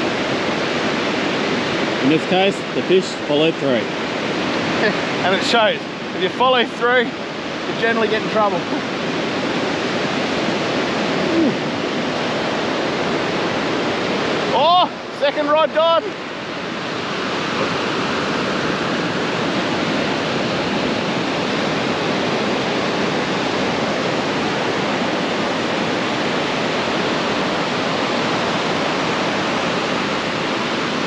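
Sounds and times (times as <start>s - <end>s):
surf washing onto beach: 0.0s - 31.0s.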